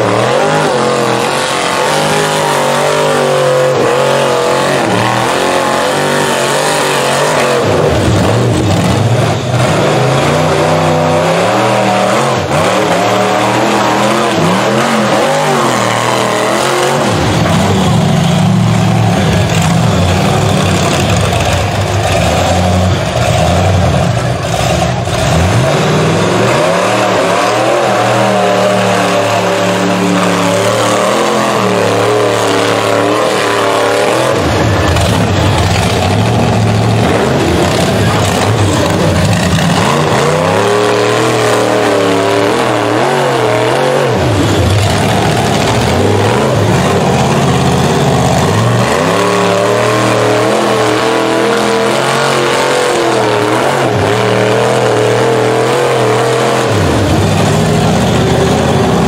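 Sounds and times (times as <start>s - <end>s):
buggy engine revving hard: 0.0s - 59.0s.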